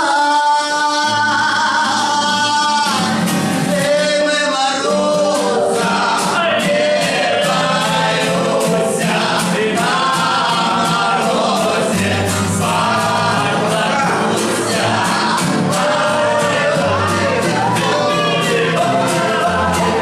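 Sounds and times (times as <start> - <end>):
men singing in chorus: 0.0 - 20.0
strummed acoustic guitars: 0.0 - 20.0.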